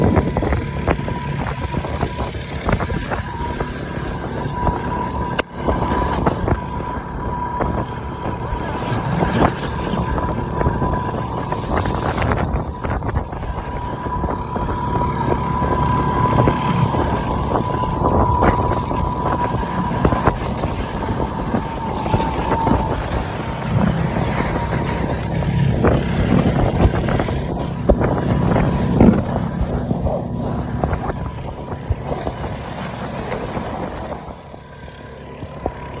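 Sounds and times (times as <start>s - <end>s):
motor running: 0.0s - 36.0s
steady whine: 0.0s - 36.0s
wind buffeting microphone: 0.0s - 36.0s.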